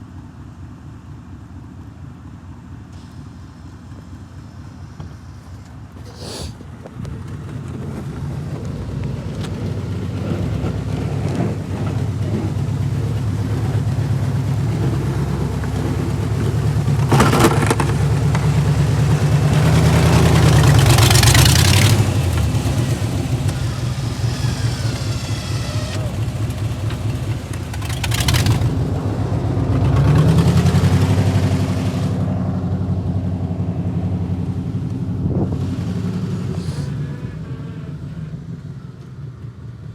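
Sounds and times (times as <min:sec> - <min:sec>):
vehicle engine revving: 0:05.6 - 0:39.7.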